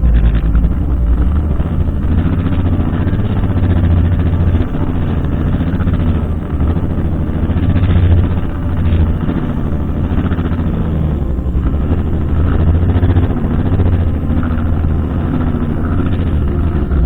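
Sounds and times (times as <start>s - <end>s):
brushcutter engine running: 0.0s - 17.0s.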